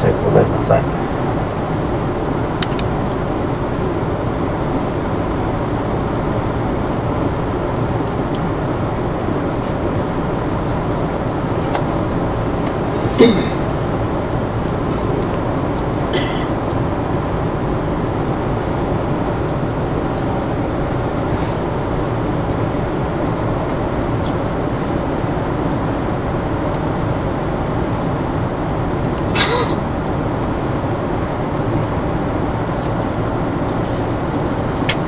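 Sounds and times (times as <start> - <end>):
train interior hum and rumble: 0.0 - 35.0.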